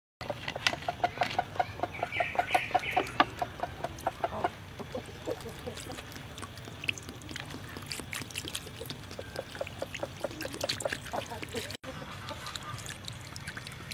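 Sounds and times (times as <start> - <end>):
chickens clucking: 0.2 - 7.8, 8.5 - 12.8.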